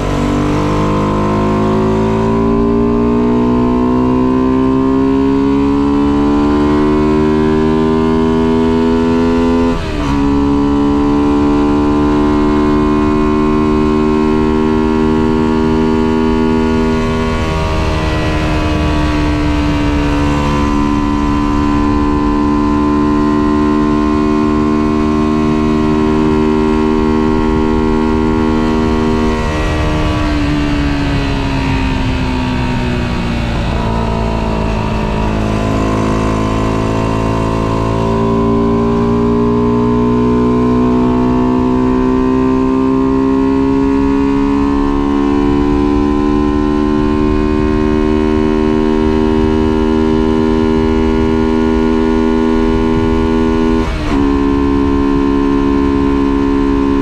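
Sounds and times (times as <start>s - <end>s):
motorbike engine: 0.0s - 57.0s
wind and road rush: 0.0s - 57.0s.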